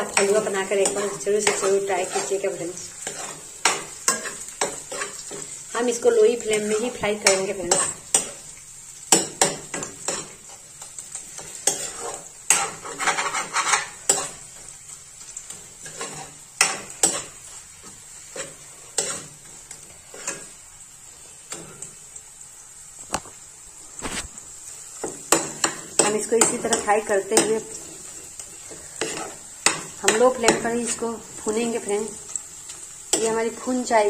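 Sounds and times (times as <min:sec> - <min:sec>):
spoon scraping a pan: 0:00.0 - 0:22.0, 0:24.0 - 0:33.9
faint sizzle: 0:00.0 - 0:34.0.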